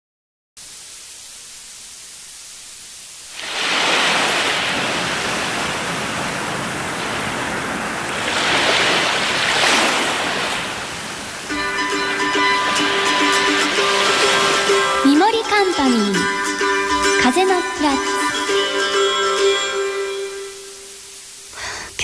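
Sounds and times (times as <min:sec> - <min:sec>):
tape hiss: 0:00.6 - 0:22.0.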